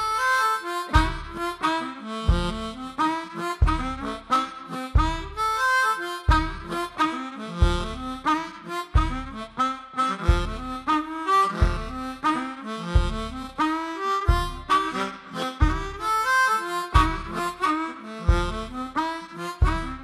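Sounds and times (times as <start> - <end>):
blues harmonica melody: 0.0 - 20.0.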